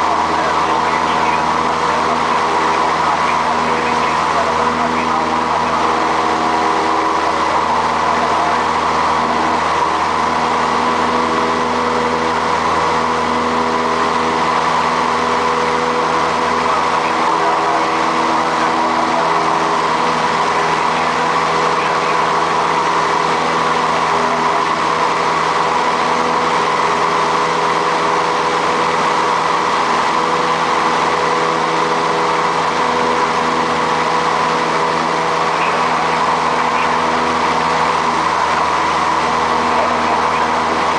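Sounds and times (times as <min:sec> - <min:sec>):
propeller airplane engine drone: 0:00.0 - 0:40.9
propeller and air rush: 0:00.0 - 0:40.9.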